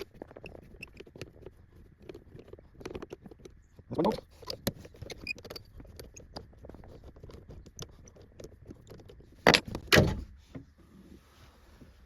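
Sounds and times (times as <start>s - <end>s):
allen key clicking and scraping: 0.0s - 10.1s.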